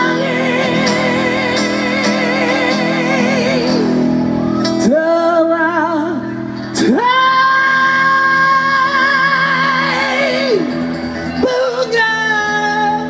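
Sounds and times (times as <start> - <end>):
live band playing a ballad: 0.0 - 13.0
person singing long notes: 0.0 - 13.0.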